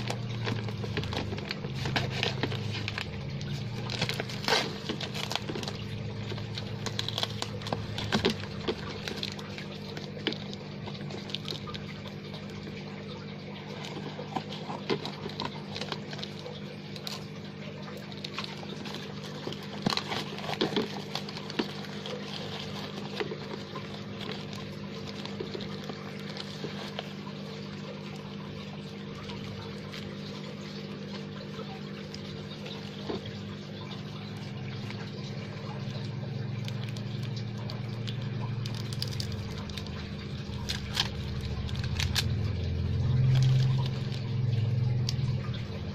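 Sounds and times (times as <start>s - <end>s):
paper parcel tearing and rustling: 0.0s - 12.5s, 13.6s - 31.0s, 31.6s - 45.0s
aquarium air line bubbling: 0.0s - 45.9s.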